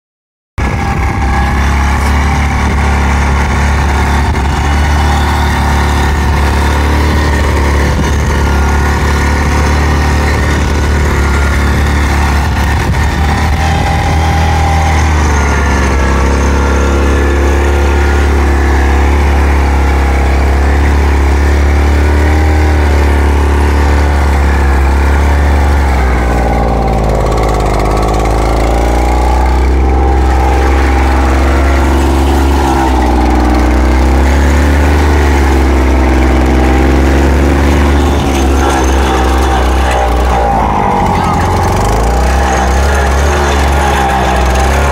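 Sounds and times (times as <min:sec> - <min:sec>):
two-wheel tractor engine running: 0:00.6 - 0:44.9.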